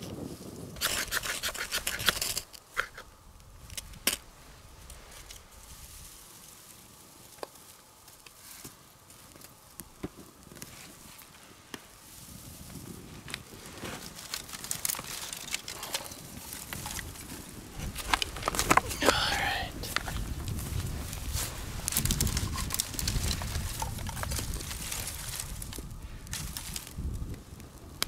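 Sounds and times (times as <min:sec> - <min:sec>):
campfire snapping and crackling: 0:00.0 - 0:28.0.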